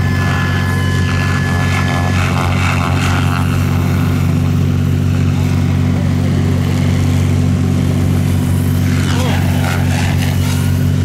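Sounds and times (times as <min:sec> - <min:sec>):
rc helicopter buzzing: 0:00.0 - 0:11.0.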